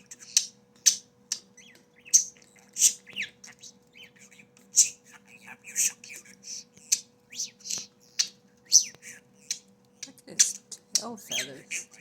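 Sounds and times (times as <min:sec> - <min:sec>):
budgerigar high chirps: 0:00.0 - 0:12.0
budgerigar soft warbling: 0:00.0 - 0:12.0.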